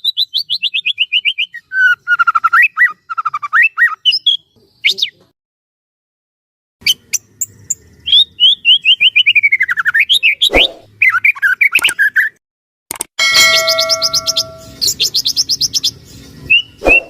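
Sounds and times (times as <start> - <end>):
songbird singing loudly: 0.0 - 5.2, 6.8 - 12.4, 13.5 - 17.0.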